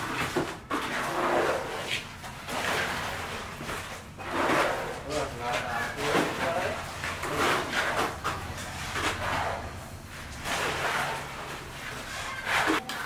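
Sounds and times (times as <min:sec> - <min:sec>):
wet concrete scraping and sloshing: 0:00.0 - 0:13.0.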